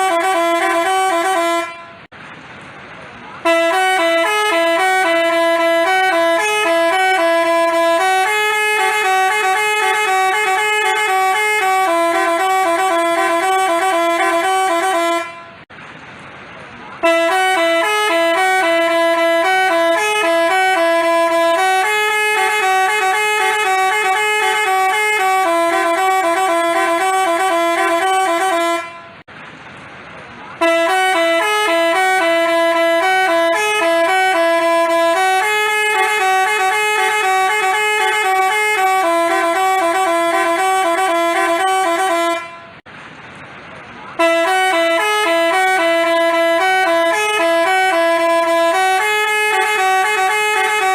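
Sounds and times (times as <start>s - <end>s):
musical bus horn melody: 0.0s - 2.2s, 3.4s - 15.7s, 17.0s - 29.3s, 30.6s - 42.9s, 44.1s - 50.9s.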